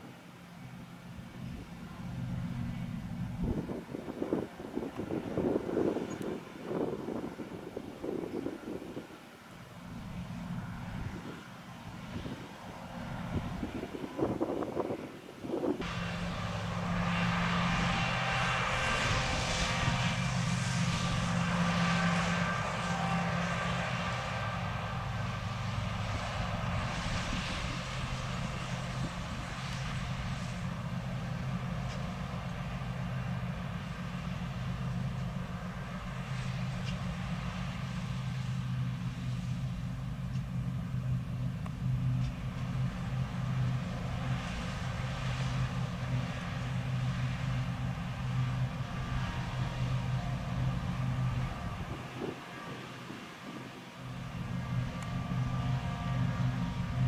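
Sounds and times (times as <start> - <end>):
combine harvester engine hum: 0.0 - 57.0.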